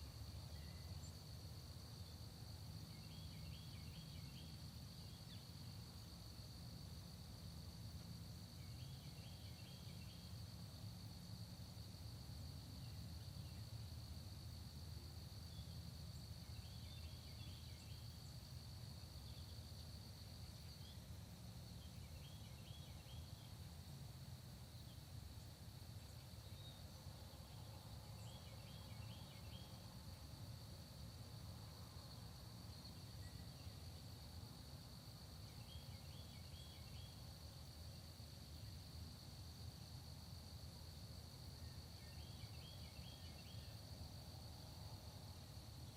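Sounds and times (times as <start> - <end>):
crickets trilling: 0.0 - 45.9
songbird singing: 0.0 - 45.9.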